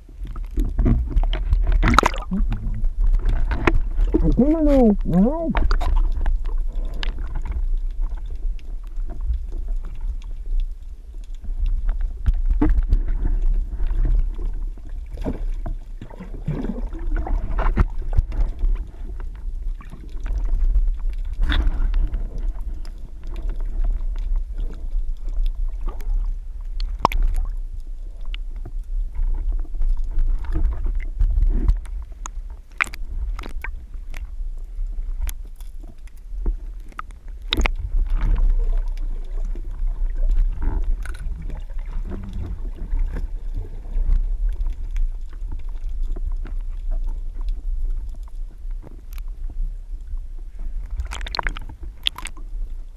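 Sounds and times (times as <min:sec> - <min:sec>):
boat engine low rumble: 0:00.0 - 0:16.0, 0:16.9 - 0:52.9.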